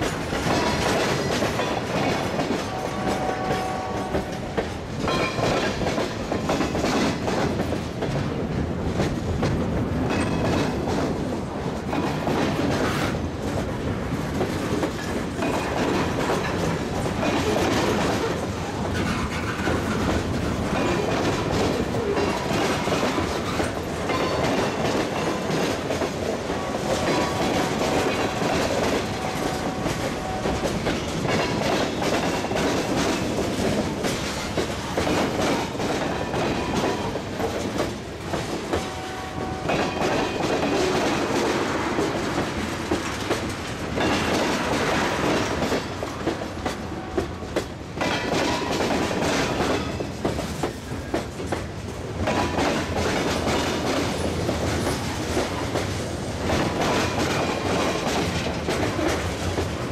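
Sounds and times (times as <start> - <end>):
train wheels clacking over joints: 0.0 - 59.9.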